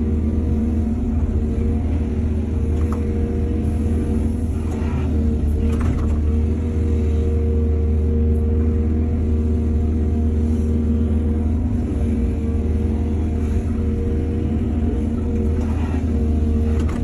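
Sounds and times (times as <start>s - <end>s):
diesel excavator engine rumbling: 0.0s - 17.0s.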